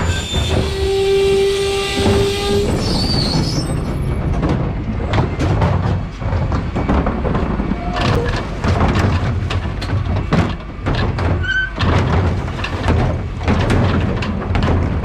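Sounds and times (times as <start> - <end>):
truck engine rumbling: 0.0 - 15.0
truck body rattling: 2.1 - 15.0.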